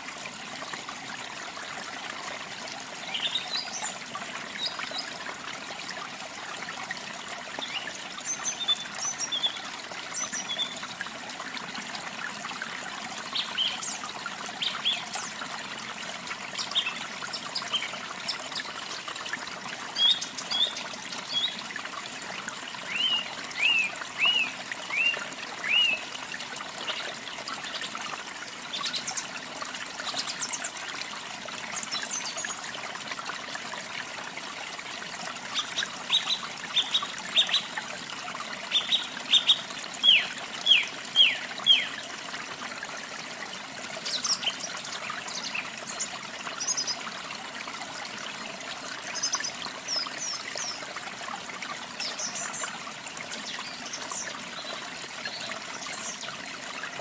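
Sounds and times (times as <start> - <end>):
trickling running water: 0.0 - 57.0.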